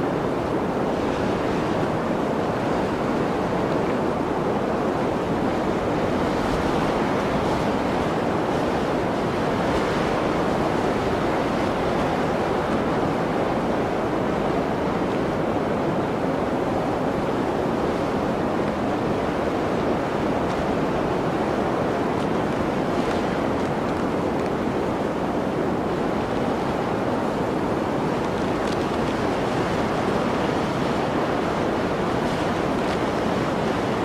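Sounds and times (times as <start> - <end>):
blizzard wind rushing: 0.0 - 34.0.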